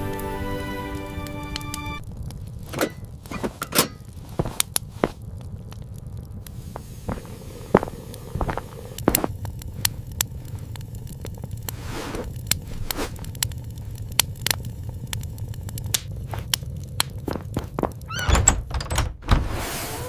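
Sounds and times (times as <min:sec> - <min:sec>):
crackles and snapping clicks: 0:01.2 - 0:18.1
steady low rumble: 0:02.0 - 0:19.4.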